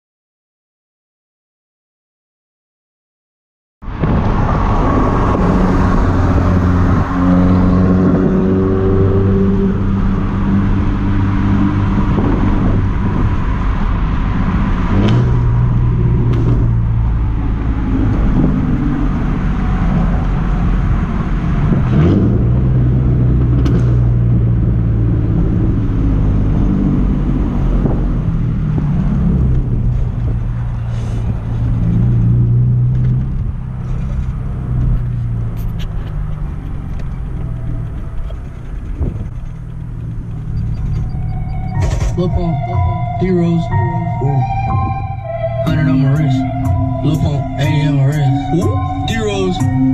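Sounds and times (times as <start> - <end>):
car engine running: 9.7 - 49.9.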